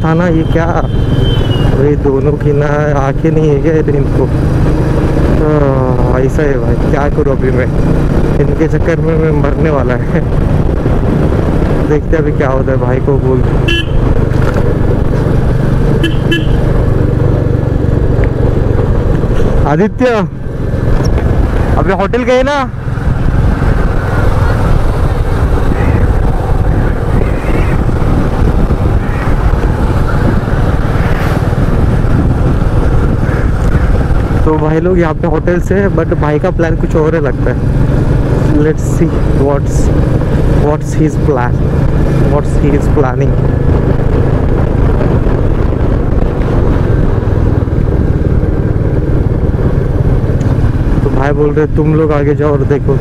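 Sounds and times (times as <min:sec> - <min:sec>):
motorcycle engine cruising: 0:00.0 - 0:53.0
wind on microphone: 0:00.0 - 0:53.0.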